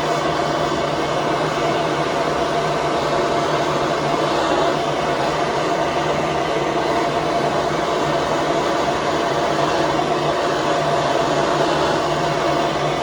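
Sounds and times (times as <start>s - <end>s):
gas torch flame rushing: 0.0s - 13.0s.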